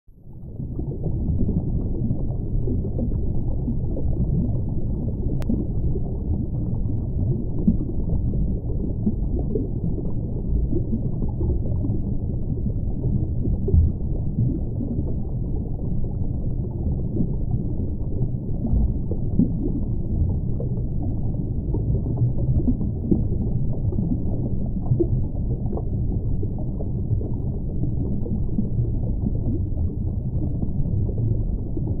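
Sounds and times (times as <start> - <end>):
underwater moving water rumble: 0.1 - 32.0.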